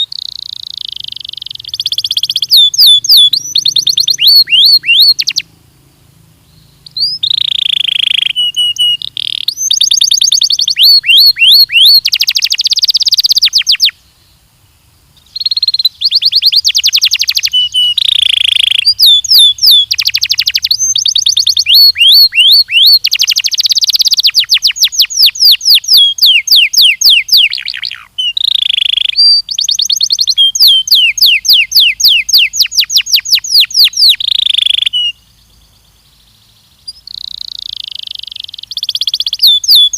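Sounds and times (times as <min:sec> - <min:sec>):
canary singing trills: 0:00.0 - 0:14.5, 0:15.2 - 0:39.9.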